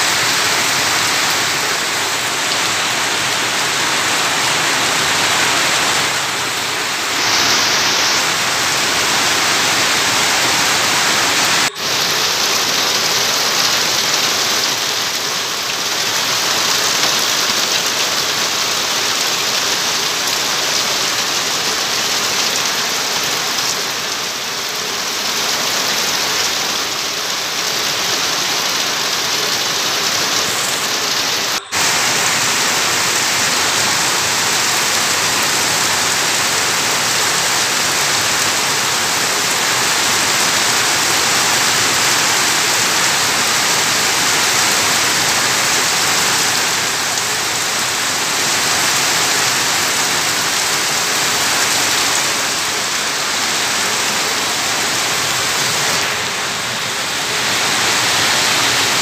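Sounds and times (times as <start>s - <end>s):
water pouring off roof edge: 0.0s - 56.3s
heavy rain falling: 0.0s - 59.0s.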